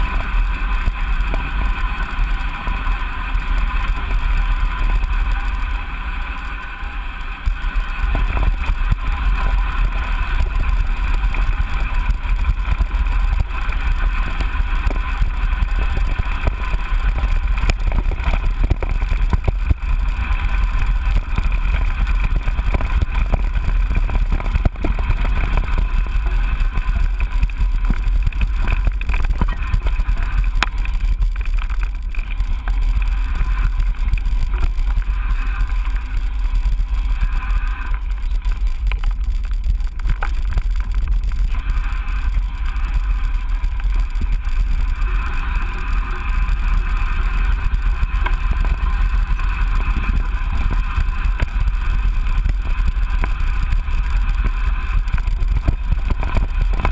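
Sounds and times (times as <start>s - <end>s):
wind buffeting microphone: 7.3s - 56.9s.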